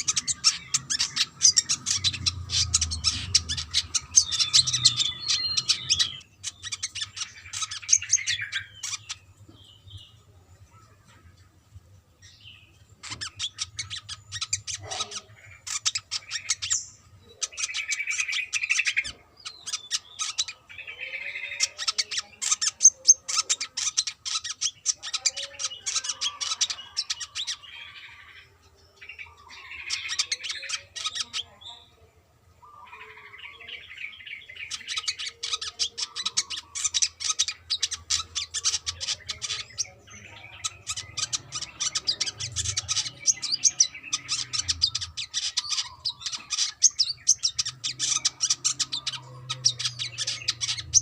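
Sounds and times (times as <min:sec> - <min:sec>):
bird twittering: 0:00.0 - 0:10.2, 0:12.2 - 0:32.0, 0:32.6 - 0:51.0.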